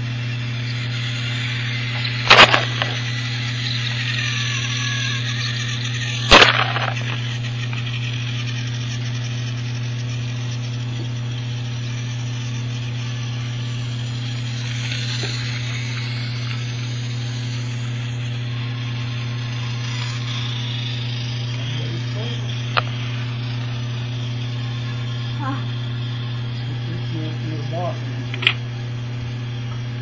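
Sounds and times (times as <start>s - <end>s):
toy train motor humming: 0.0s - 30.0s.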